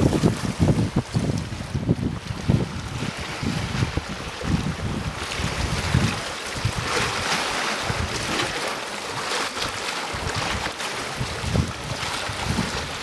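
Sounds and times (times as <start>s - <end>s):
wind rumbling on microphone: 0.0s - 8.6s, 9.2s - 13.0s
sea water splashing on rocks: 0.0s - 13.0s.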